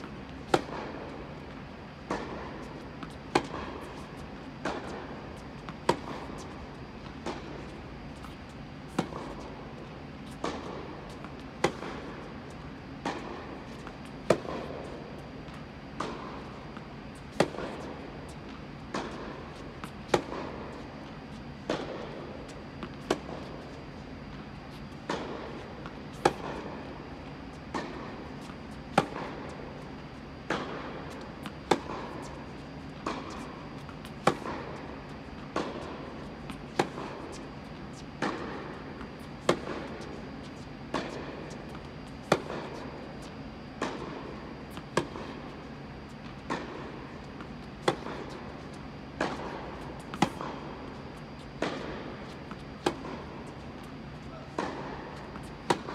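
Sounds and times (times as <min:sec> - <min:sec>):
tennis racket hitting ball: 0:00.0 - 0:23.8, 0:24.5 - 0:55.9
steady hum: 0:00.0 - 0:55.9.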